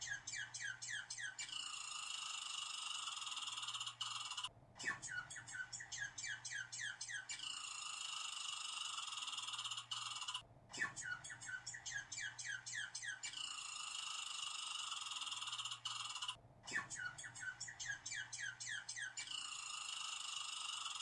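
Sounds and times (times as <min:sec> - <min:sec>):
squirrel chirping: 0:00.0 - 0:21.0.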